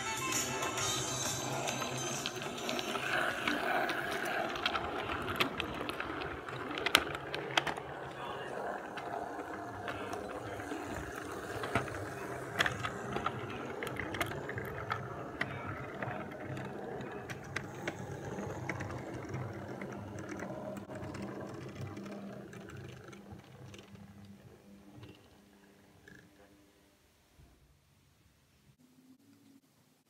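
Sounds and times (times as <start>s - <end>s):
model train motor hum: 0.0s - 24.8s
wheels clicking on rails: 0.0s - 26.5s.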